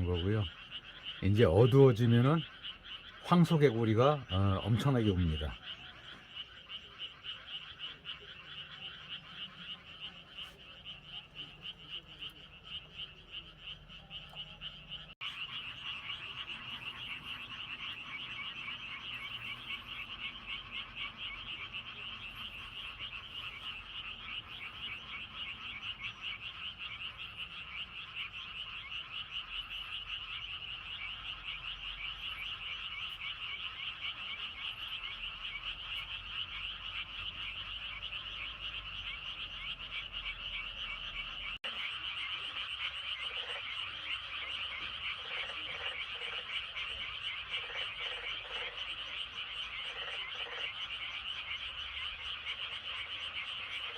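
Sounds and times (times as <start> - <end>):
frog chorus croaking: 0.0 - 53.9.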